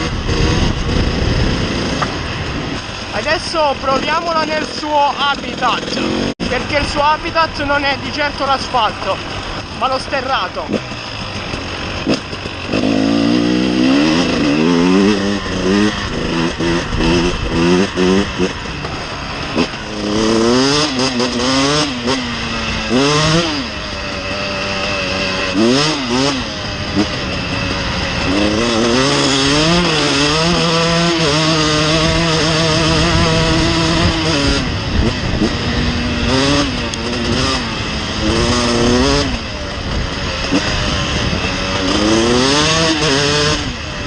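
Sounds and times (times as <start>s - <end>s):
two-stroke engine revving: 0.0s - 44.0s.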